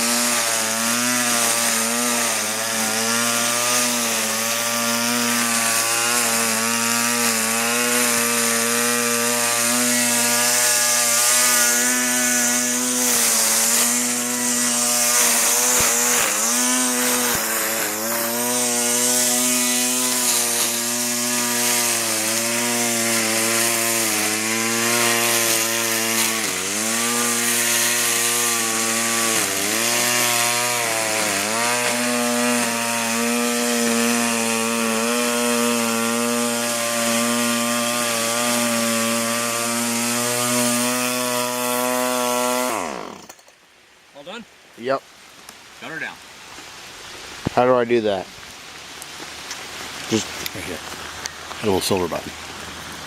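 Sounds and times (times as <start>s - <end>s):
string trimmer engine running: 0.0s - 43.4s.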